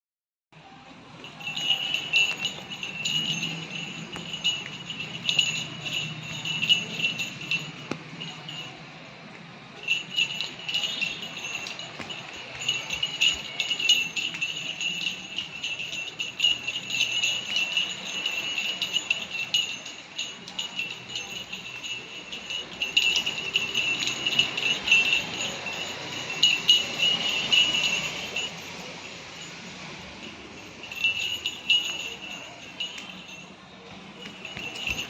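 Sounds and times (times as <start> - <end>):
small bell jingling: 1.2 - 8.9, 9.8 - 35.0.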